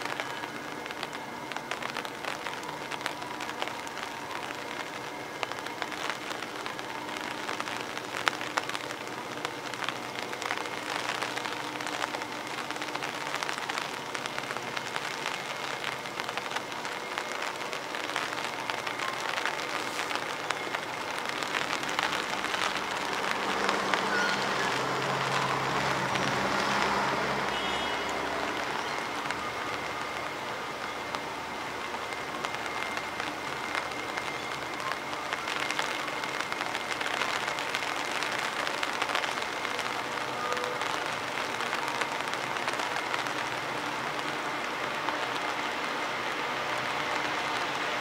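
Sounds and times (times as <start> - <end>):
diesel locomotive engines: 0.0 - 48.0
light rain pattering: 0.0 - 48.0.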